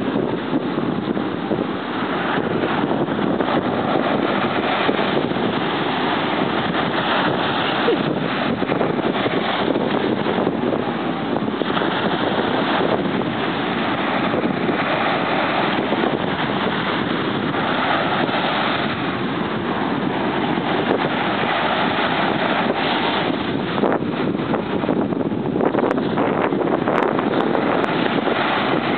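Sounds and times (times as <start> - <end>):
surf on a beach: 0.0 - 28.9
wind buffeting microphone: 0.0 - 28.9.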